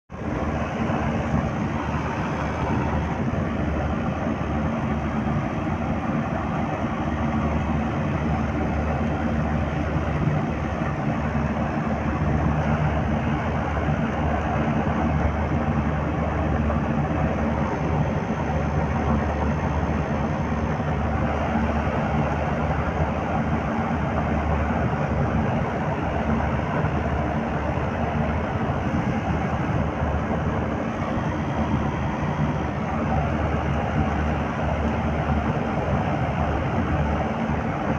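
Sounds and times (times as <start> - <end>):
air conditioner humming: 0.1 - 37.9.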